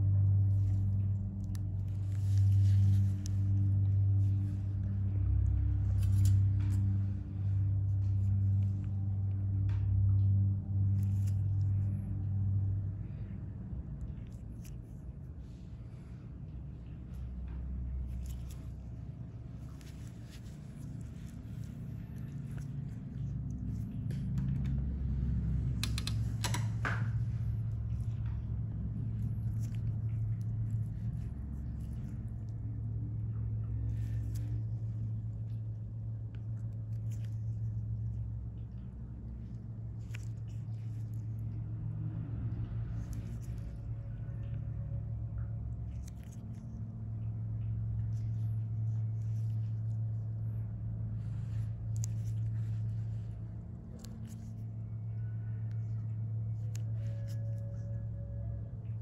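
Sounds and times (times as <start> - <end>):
faint clicks and scratches: 0.0 - 59.0
steady low hum: 0.0 - 59.0.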